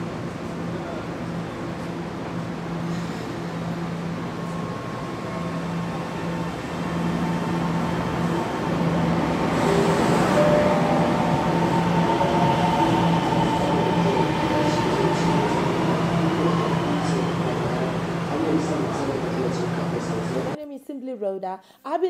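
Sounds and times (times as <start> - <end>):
high-speed train passing: 0.0 - 20.6.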